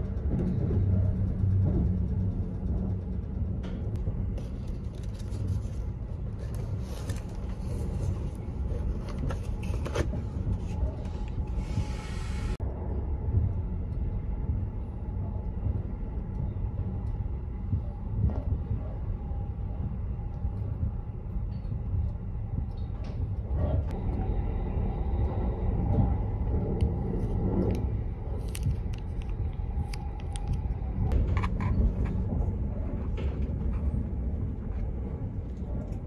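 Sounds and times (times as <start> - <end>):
train rumble inside carriage: 0.0 - 36.0.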